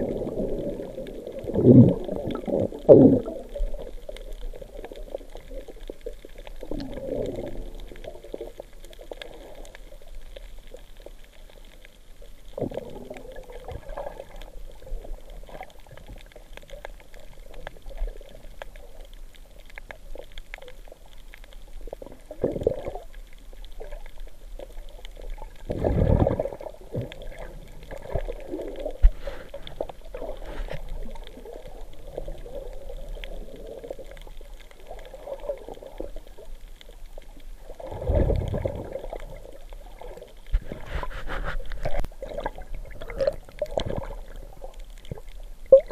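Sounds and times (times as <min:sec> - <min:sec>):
muffled underwater gurgling: 0:00.0 - 0:45.9.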